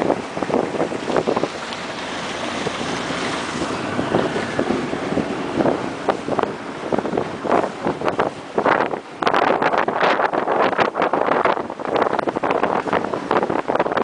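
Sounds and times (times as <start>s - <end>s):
choppy water washing around boat: 0.0s - 14.0s
wind buffeting microphone: 0.0s - 14.0s.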